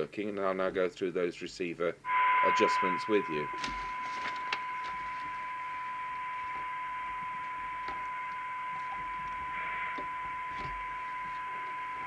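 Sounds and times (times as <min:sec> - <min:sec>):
radio test tone: 0:02.1 - 0:12.0.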